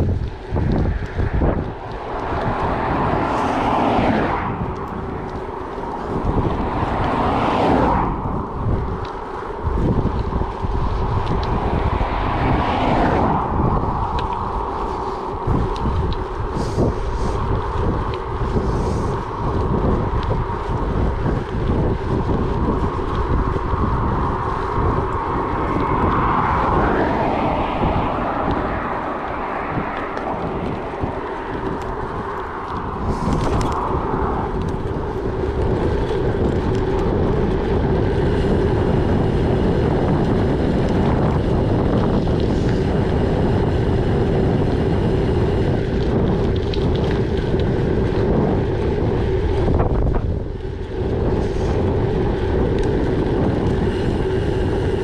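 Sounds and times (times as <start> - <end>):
bike riding rumble: 0.0 - 55.0
wind buffeting microphone: 0.0 - 55.0.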